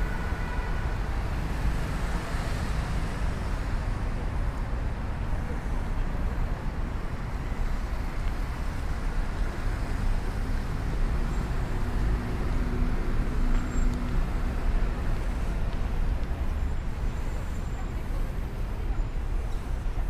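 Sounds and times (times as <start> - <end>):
city traffic noise: 0.0 - 20.0
vehicle engine hum: 0.0 - 20.0.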